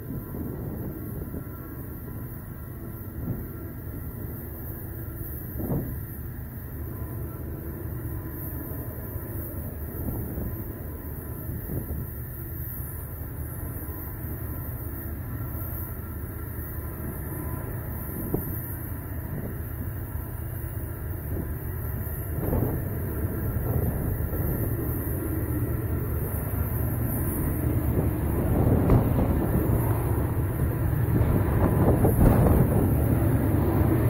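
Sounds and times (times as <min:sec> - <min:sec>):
locomotive engine rumble: 0:00.0 - 0:34.0.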